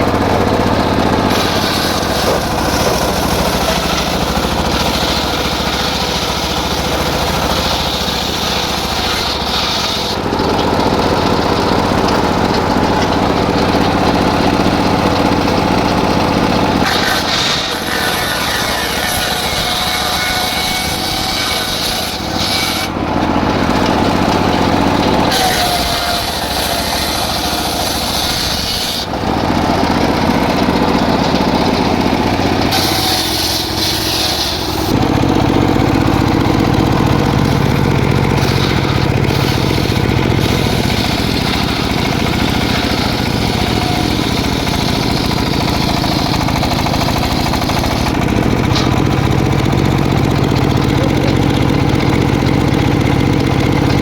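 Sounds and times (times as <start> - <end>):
engine-powered saw cutting logs: 0.0 - 54.0.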